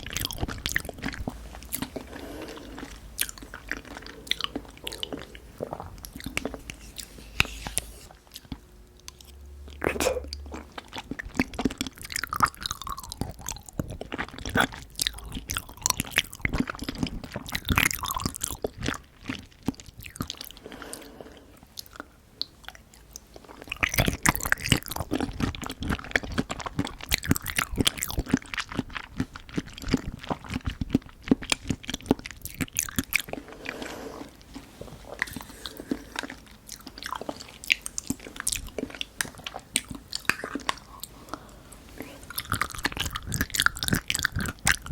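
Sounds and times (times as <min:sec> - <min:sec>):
wet chewing: 0:00.0 - 0:44.9.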